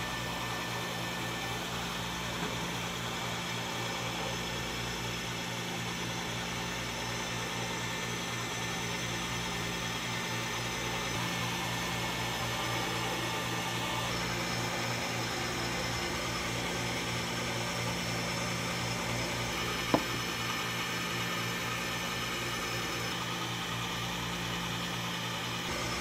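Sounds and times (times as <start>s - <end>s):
ice shaving machine whirring: 0.0s - 26.0s.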